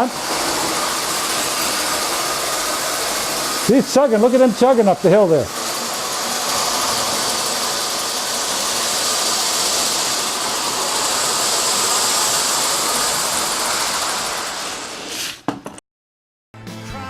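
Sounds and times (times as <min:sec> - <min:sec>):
model train locomotive chugging: 0:00.0 - 0:15.2.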